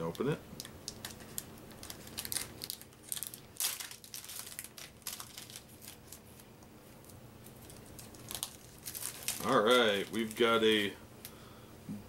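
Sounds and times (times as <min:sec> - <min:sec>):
plastic wrapper crinkling and tearing: 0:00.1 - 0:10.9.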